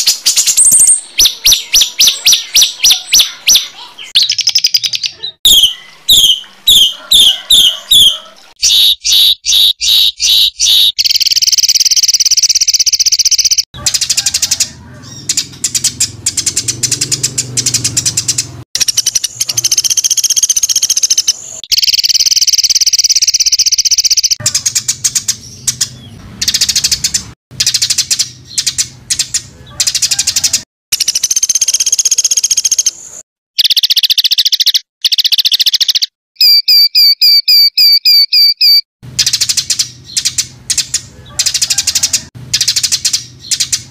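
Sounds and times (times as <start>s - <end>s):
songbird fast chirping song: 0.0s - 43.9s.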